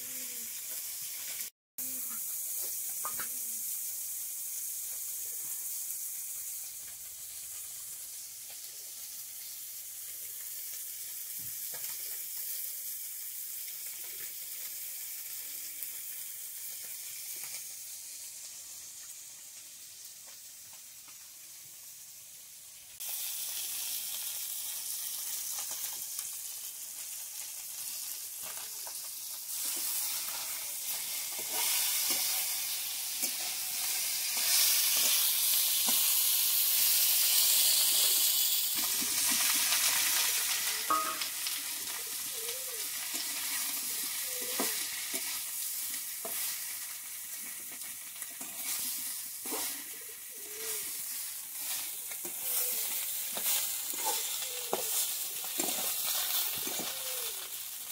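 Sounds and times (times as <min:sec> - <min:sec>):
fish frying in hot oil: 0:00.0 - 0:57.9.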